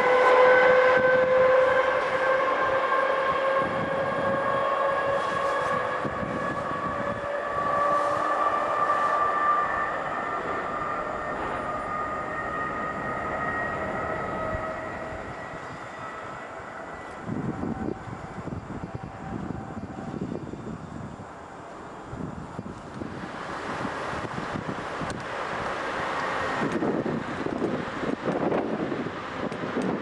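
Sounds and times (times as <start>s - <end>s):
electric train whine: 0.0s - 30.0s
train rushing noise: 0.0s - 30.0s.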